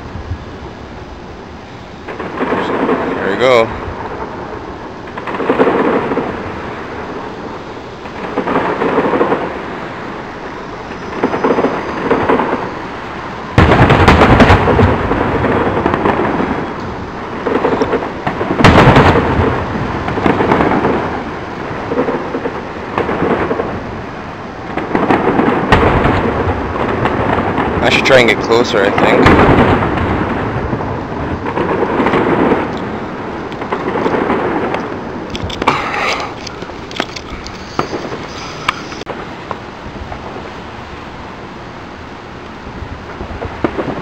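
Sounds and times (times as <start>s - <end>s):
fireworks booming: 0.0s - 44.0s.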